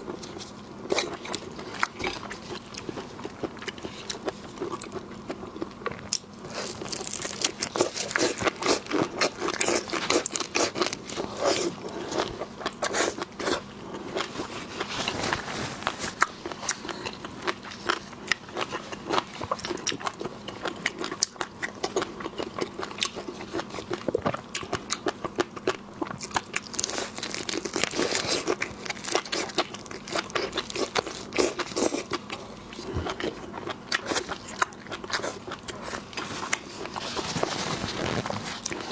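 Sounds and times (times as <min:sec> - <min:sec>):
wet chewing and crunching: 0:00.0 - 0:38.9.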